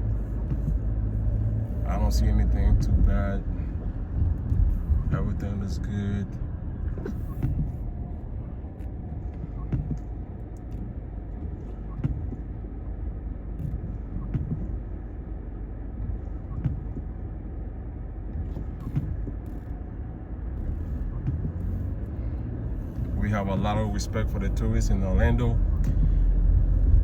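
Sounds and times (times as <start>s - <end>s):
road noise inside a car: 0.0s - 27.0s.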